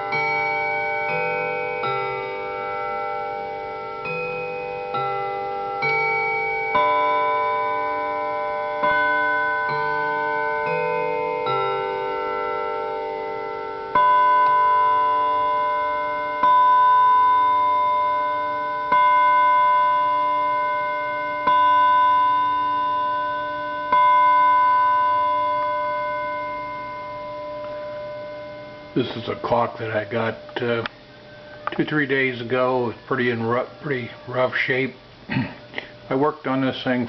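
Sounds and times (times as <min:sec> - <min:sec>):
clock striking the hour: 0:00.0 - 0:31.0
clock chime: 0:00.0 - 0:35.1.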